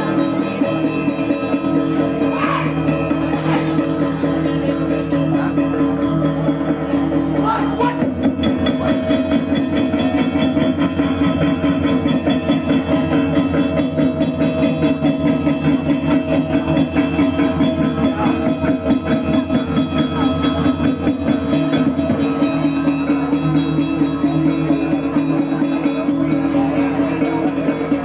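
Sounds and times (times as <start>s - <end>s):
gamelan playing fast: 0.0s - 28.0s.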